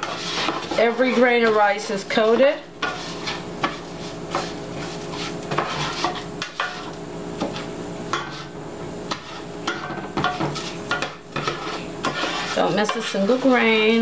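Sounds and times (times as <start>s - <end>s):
spoon scraping rice in pot: 0.0s - 14.0s.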